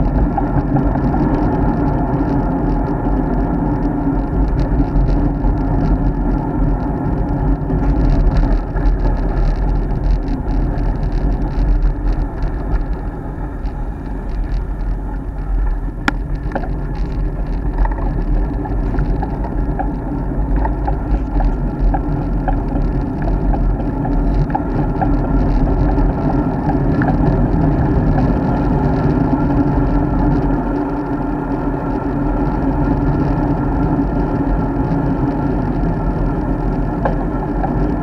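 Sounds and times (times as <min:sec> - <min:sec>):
bike tyres rolling on road: 0:00.0 - 0:38.0
small rattling ticks: 0:00.0 - 0:38.0
wind buffeting microphone: 0:00.0 - 0:38.0.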